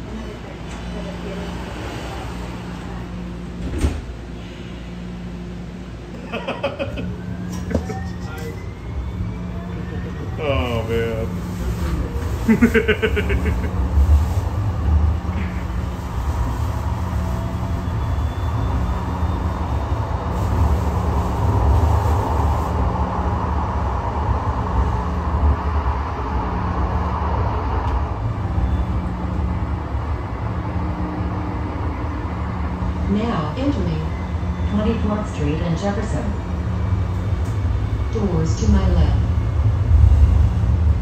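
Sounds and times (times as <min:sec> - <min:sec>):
light rail car running rumble: 0:00.0 - 0:41.0.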